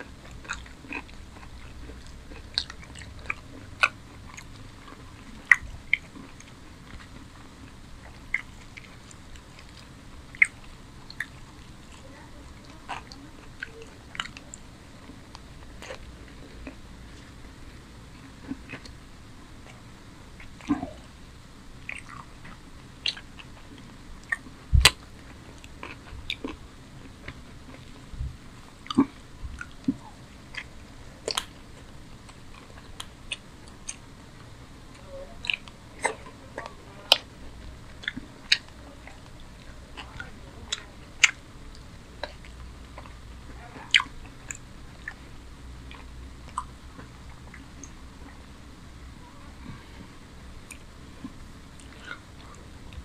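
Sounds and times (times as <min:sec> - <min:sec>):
mouth clicks and smacks: 0:00.0 - 0:17.3, 0:20.4 - 0:21.1, 0:21.8 - 0:26.6, 0:27.2 - 0:34.1, 0:34.9 - 0:45.3, 0:45.9 - 0:48.5, 0:50.6 - 0:53.0
wet chewing and biting: 0:00.0 - 0:17.4, 0:18.1 - 0:19.0, 0:21.8 - 0:34.1, 0:35.4 - 0:48.0.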